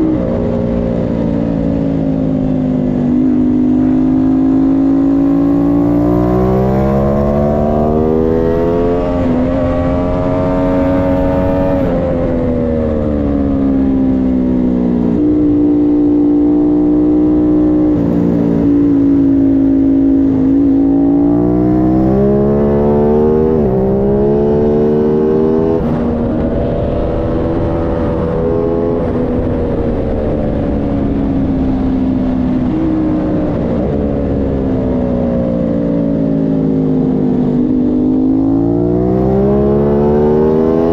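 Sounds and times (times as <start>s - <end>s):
motorcycle engine revving at speed: 0.0s - 40.9s.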